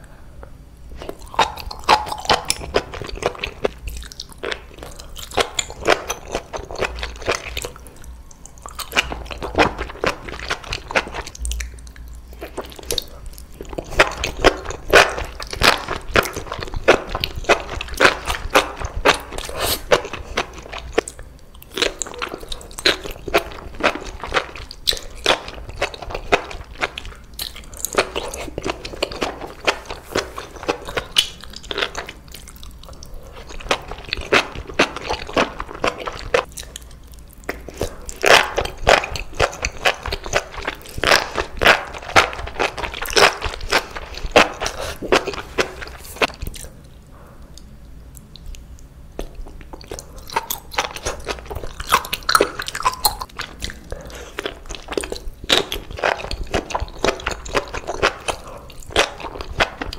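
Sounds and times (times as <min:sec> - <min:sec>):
chewing with wet crunches: 0:00.9 - 0:59.9.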